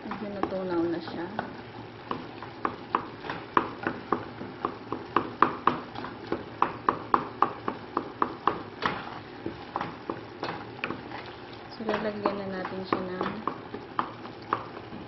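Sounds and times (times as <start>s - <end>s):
wooden spoon knocking on pot: 0.1s - 15.0s.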